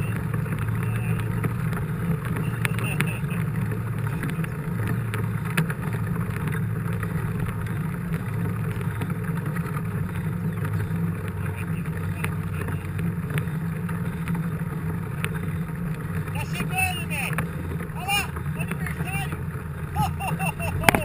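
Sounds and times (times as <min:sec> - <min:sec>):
bike clicks and knocks: 0:00.0 - 0:16.2, 0:20.3 - 0:21.0
tyre noise: 0:00.0 - 0:21.0.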